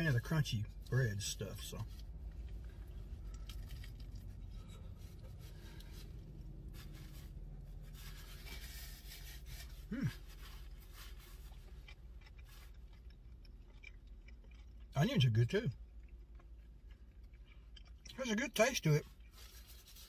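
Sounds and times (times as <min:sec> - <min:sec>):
low steady hum: 0:00.0 - 0:20.0
chewing crunchy crust: 0:00.1 - 0:20.0.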